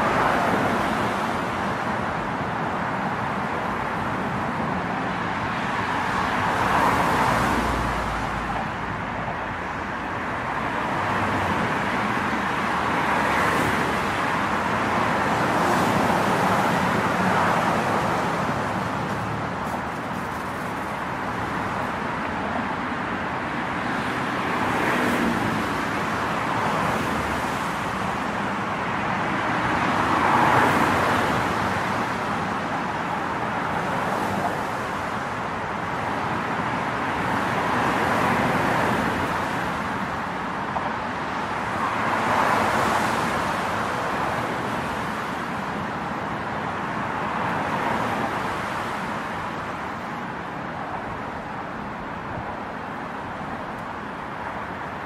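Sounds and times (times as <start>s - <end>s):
passing road traffic: 0.0s - 55.0s.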